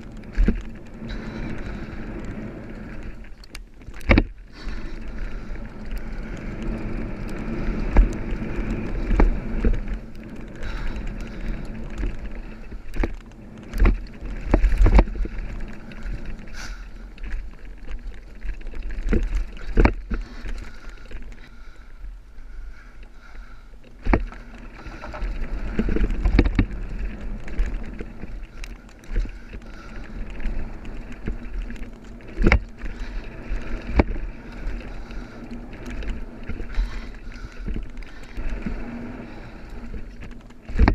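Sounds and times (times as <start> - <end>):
bike knocking and rattling: 0.0 - 40.9
bike tyres crunching on dirt: 0.0 - 40.9.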